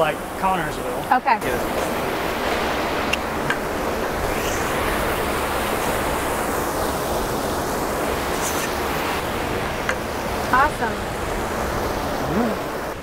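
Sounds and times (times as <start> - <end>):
water rushing and churning: 0.0 - 13.0.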